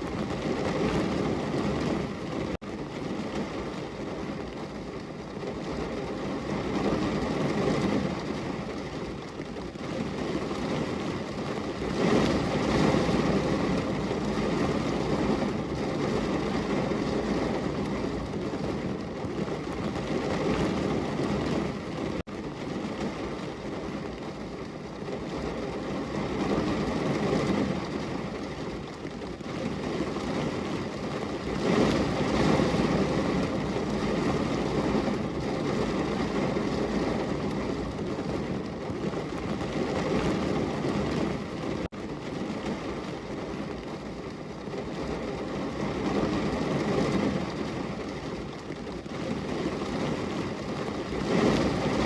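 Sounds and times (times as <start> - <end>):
heavy rain on a window: 0.0 - 52.0.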